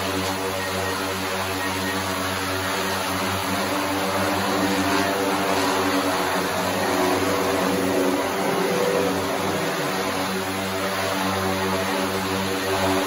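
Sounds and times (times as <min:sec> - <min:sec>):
drone propellers humming: 0:00.0 - 0:13.0.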